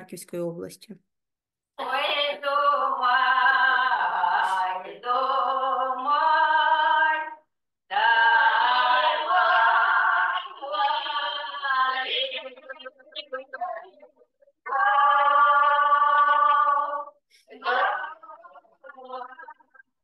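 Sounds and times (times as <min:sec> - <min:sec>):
women singing unaccompanied: 0:01.8 - 0:20.0.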